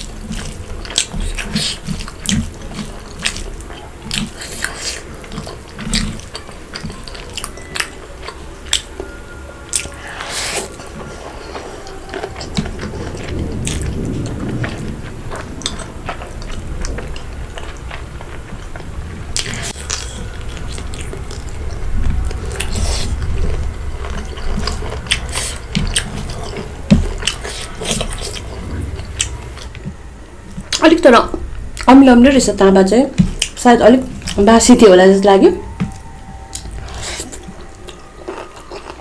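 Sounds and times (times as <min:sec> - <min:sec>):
person chewing food: 0:00.0 - 0:30.8, 0:35.6 - 0:39.0.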